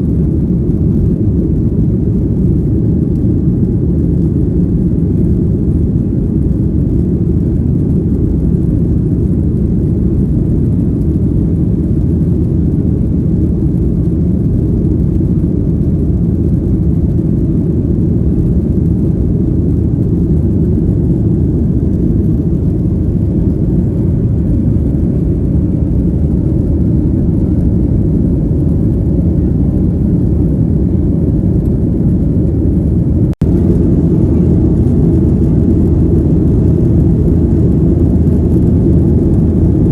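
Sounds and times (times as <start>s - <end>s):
jet cabin engine rumble: 0.0s - 39.9s.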